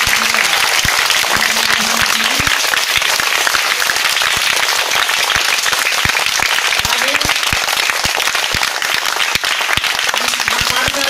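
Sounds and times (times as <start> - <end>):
children clapping: 0.0 - 11.0.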